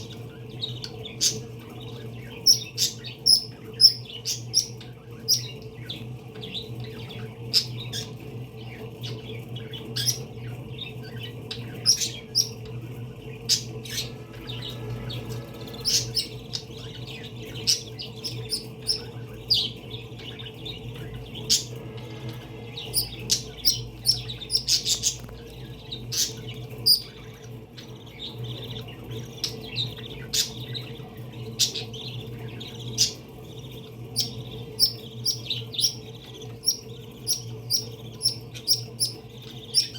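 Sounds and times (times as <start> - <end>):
parakeets chirping: 0.0 - 39.9
steady low hum: 0.0 - 39.9.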